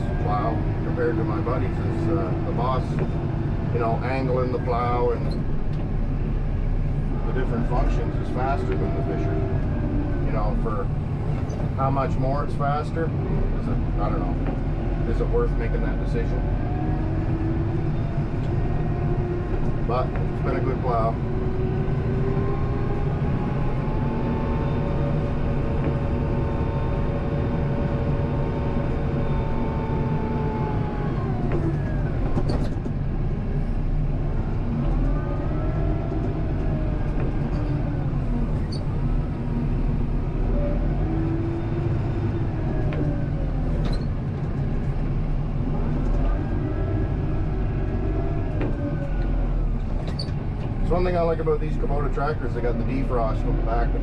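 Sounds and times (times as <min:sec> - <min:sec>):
tractor diesel engine rumbling: 0:00.0 - 0:54.0.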